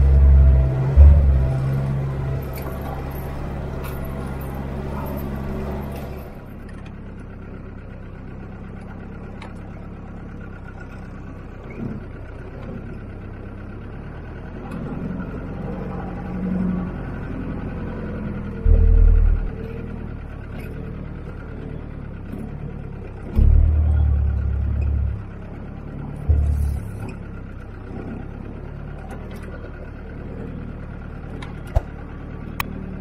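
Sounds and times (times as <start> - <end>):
car engine running: 0.0 - 33.0
road noise inside vehicle: 0.0 - 33.0.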